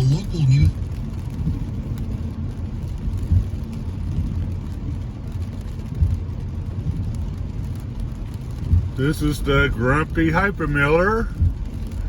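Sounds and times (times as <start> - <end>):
car road noise on wet road: 0.0 - 12.0.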